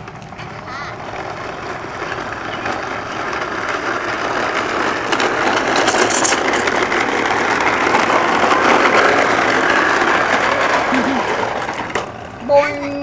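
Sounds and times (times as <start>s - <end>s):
toy lawn mower motor running: 0.0s - 13.0s.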